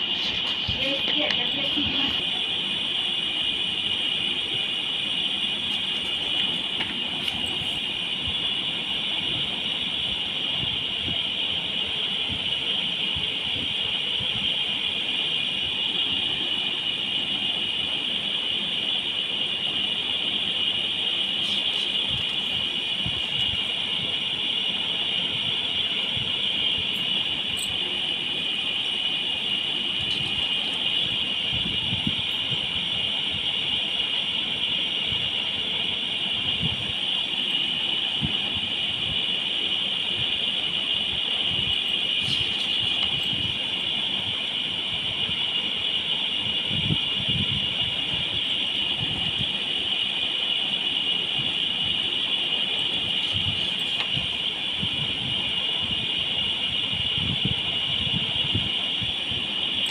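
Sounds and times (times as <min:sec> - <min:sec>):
steady high-pitched hiss: 0:00.0 - 0:59.9.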